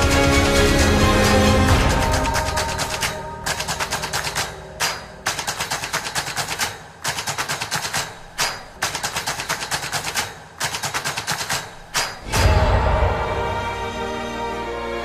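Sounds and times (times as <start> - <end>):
rapid percussive clicks: 0.0 - 12.5.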